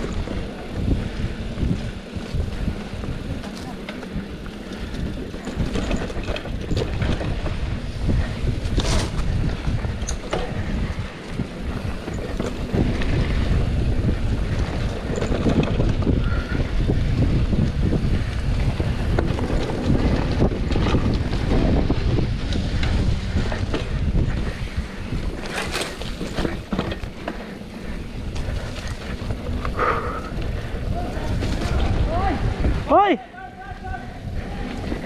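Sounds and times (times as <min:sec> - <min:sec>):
bike clicks and rattles: 0:00.0 - 0:35.0
wind buffeting microphone: 0:00.0 - 0:35.0.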